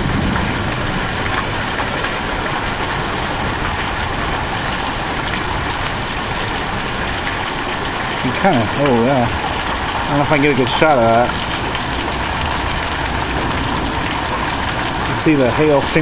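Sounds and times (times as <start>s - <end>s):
hailstones ticking: 0.0s - 16.0s
heavy rain: 0.0s - 16.0s.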